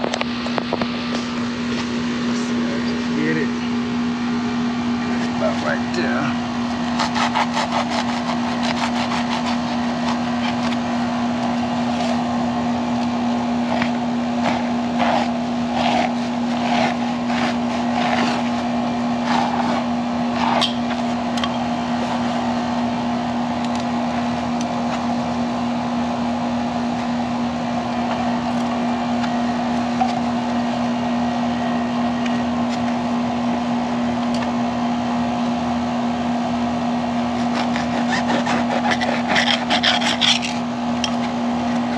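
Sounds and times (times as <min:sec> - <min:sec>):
air conditioner unit humming: 0:00.0 - 0:41.9.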